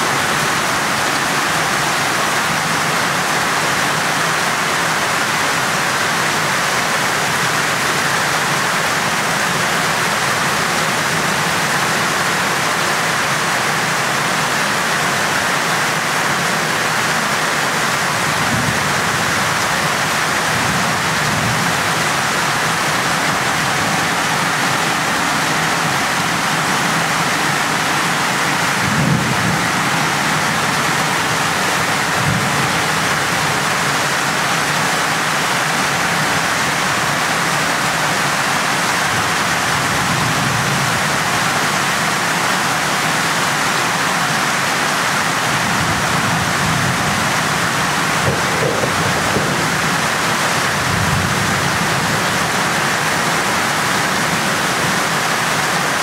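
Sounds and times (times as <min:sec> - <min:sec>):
floodwater rushing: 0:00.0 - 0:56.0
heavy rain pouring: 0:00.0 - 0:56.0.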